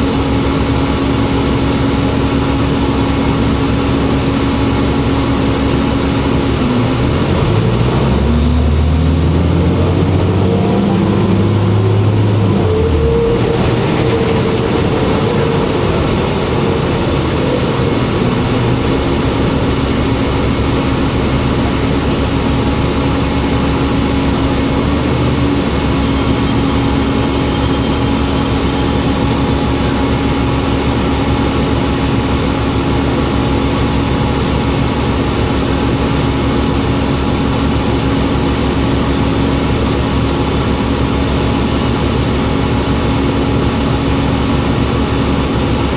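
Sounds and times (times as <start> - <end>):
bus diesel engine accelerating: 0.0 - 45.9.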